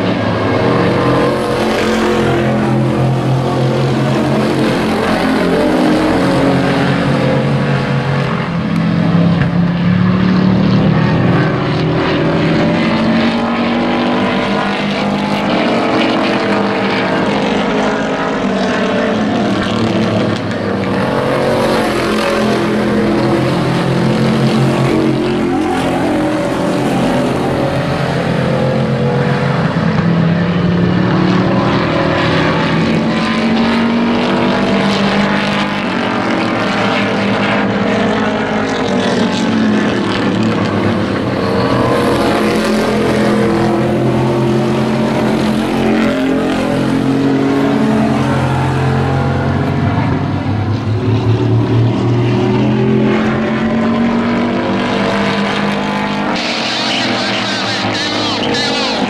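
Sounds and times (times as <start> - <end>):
race truck engines revving: 0.0 - 59.0.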